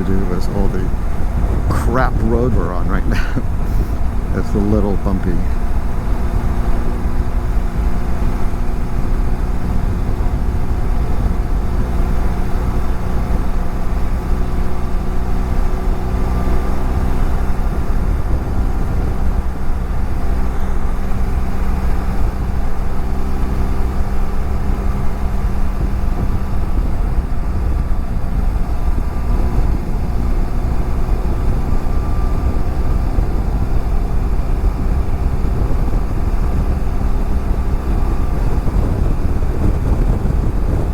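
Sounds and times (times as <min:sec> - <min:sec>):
motorcycle engine cruising: 0:00.0 - 0:40.9
road rumble: 0:00.0 - 0:40.9
wind: 0:00.0 - 0:40.9.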